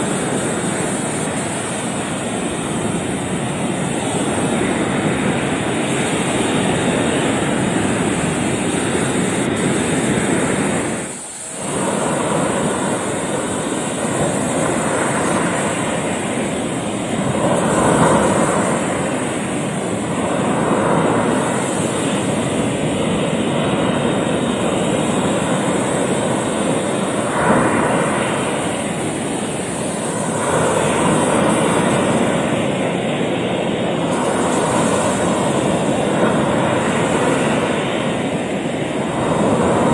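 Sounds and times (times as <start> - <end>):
surf washing over rocks: 0.0 - 39.9.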